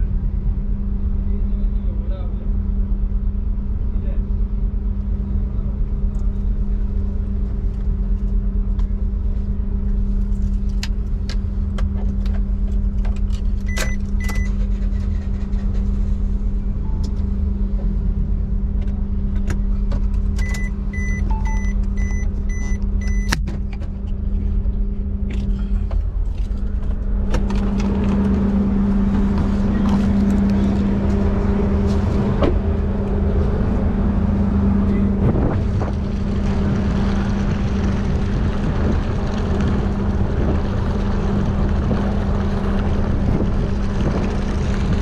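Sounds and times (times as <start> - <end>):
engine drone: 0.0 - 45.0.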